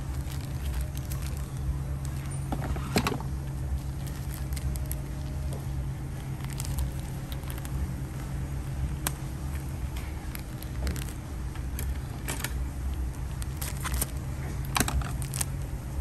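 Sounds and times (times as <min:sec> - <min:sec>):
plastic bag rustling: 0:00.0 - 0:08.4, 0:09.0 - 0:15.7
steady low hum: 0:00.0 - 0:16.0.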